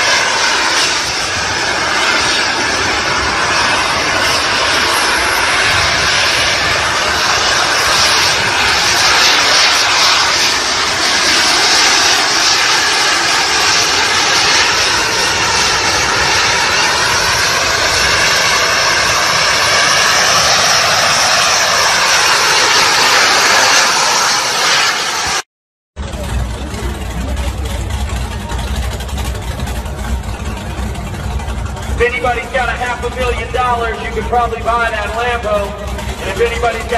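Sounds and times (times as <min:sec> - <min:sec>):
jet turbine engines roaring: 0:00.0 - 0:36.9.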